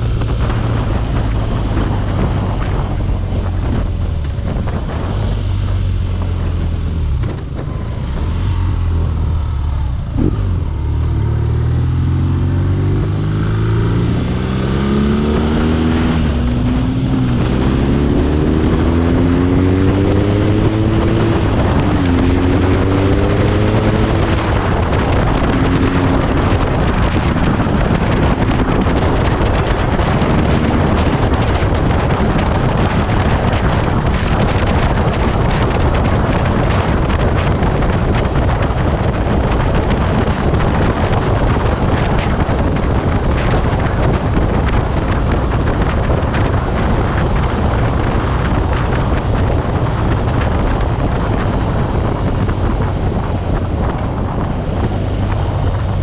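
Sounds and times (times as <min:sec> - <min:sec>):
motorcycle engine accelerating: 0:00.0 - 0:56.0
wind noise on microphone: 0:00.0 - 0:56.0.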